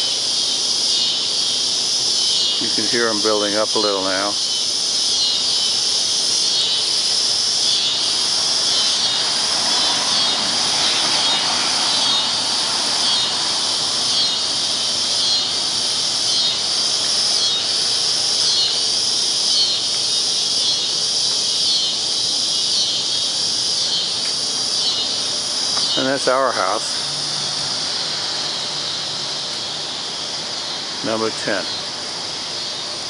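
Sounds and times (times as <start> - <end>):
cicadas buzzing: 0.0 - 33.0.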